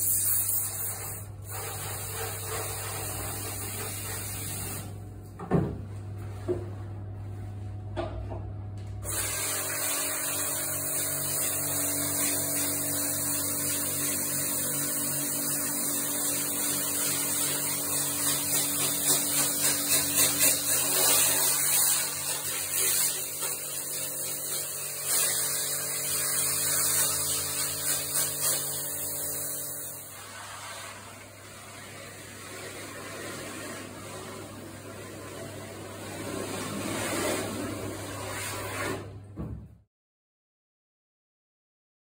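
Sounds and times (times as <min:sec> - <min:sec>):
water jet hissing: 0:00.0 - 0:05.0, 0:09.0 - 0:39.0
pressure washer pump hum: 0:00.0 - 0:39.5.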